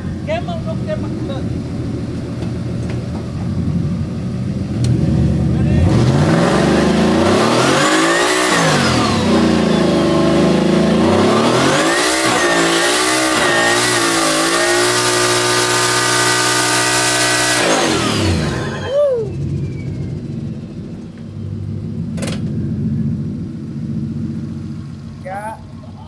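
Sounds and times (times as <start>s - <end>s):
truck engine revving hard: 3.7s - 24.8s.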